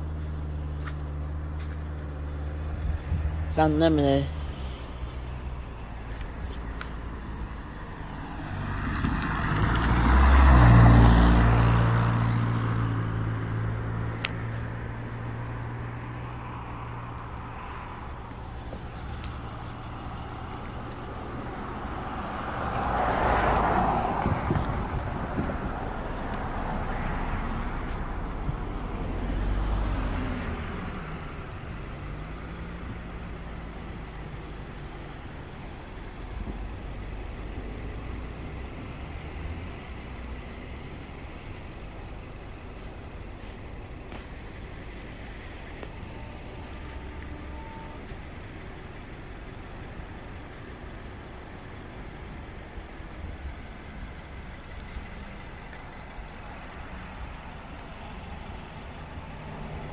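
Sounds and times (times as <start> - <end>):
cars and trucks passing: 0.0 - 59.9
steady engine hum: 0.0 - 59.9.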